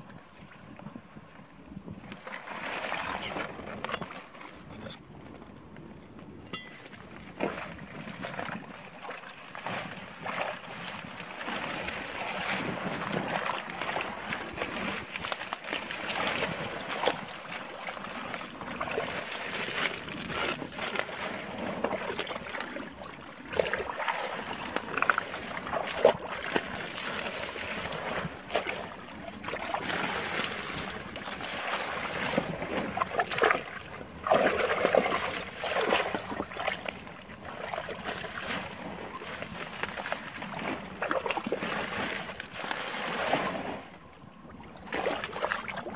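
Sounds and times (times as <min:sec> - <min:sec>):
water splashing and trickling: 0:02.1 - 0:05.0, 0:06.5 - 0:45.9
mud squelching: 0:06.6 - 0:43.8.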